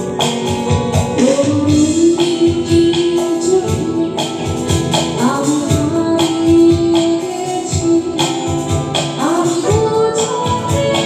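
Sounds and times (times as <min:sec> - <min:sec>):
electric guitar: 0:00.0 - 0:11.0
percussion beat: 0:00.0 - 0:11.0
woman singing: 0:01.1 - 0:11.0.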